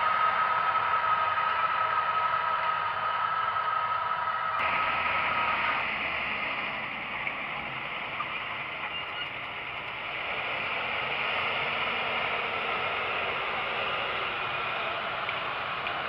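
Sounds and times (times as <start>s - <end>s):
tractor diesel engine drone: 0.0s - 16.0s.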